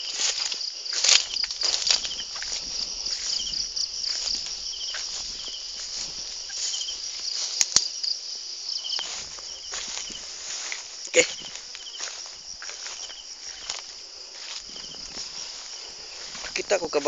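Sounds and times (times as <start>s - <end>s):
footsteps through grass: 0.0s - 17.0s
insects chirping chorus: 0.0s - 17.0s.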